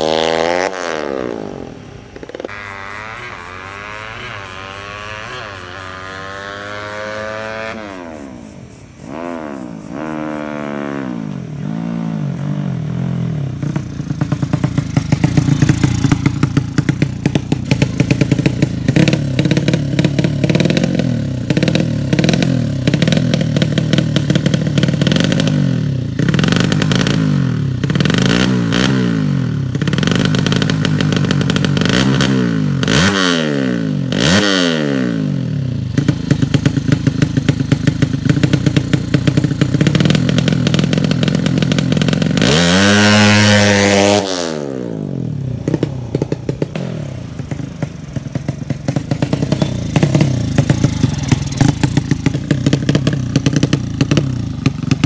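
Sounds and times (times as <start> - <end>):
crackling exhaust: 0.0 - 55.0
motorcycle engine revving: 0.0 - 55.0.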